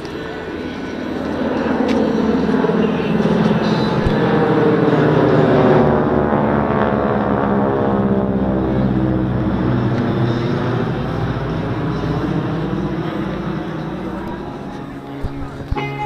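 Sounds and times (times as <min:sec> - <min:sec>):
propeller planes droning overhead: 0:00.0 - 0:16.0.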